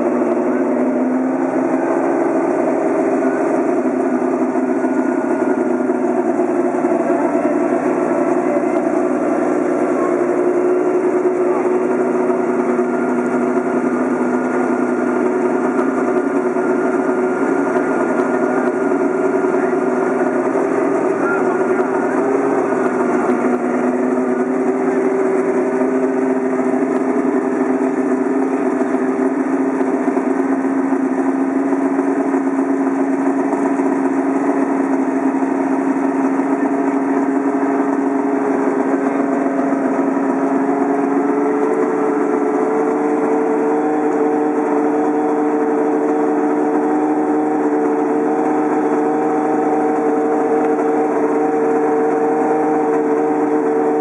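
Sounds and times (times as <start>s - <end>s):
race car engine fast idle: 0.0s - 54.0s.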